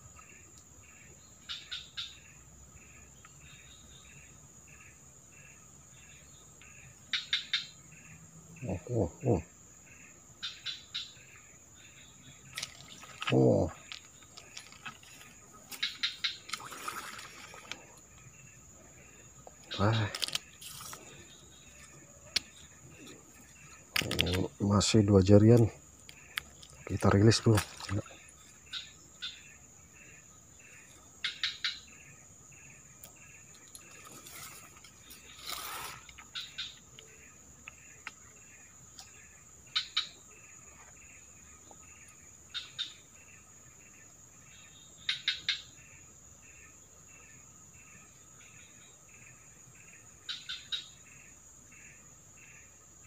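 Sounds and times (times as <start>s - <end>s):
faint insect chirp: 0.0s - 53.0s
insects high-pitched drone: 0.0s - 53.0s
short insect calls: 0.0s - 53.0s
rustle: 9.8s - 53.0s.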